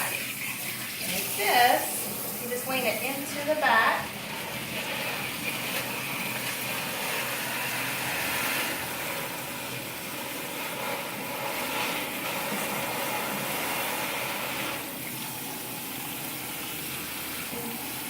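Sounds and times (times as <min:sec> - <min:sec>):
water running from sprayer: 0:00.0 - 0:18.0.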